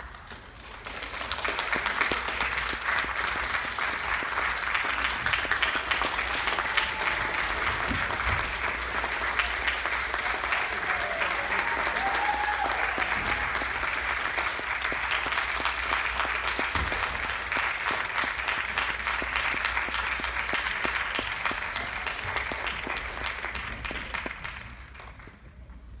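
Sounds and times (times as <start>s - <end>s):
audience applauding: 0.0s - 25.7s.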